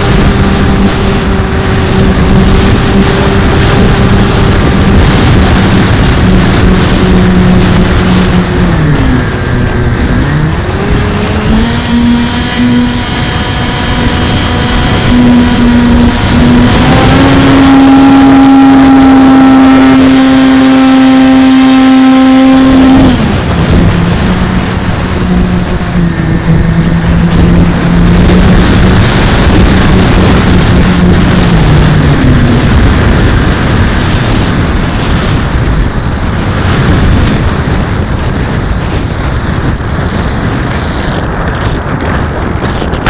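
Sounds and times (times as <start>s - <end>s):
electric motor and propeller whine: 0.0s - 43.0s
wind rush on microphone: 0.0s - 43.0s.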